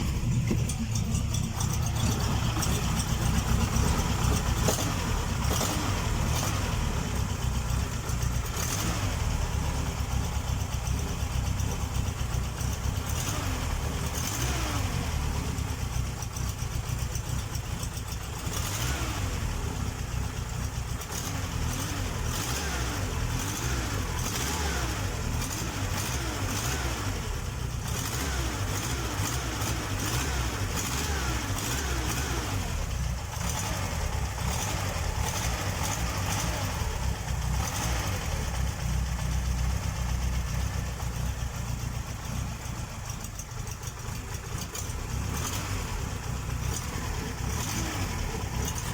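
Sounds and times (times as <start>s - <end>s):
car engine running steadily: 0.0s - 48.9s.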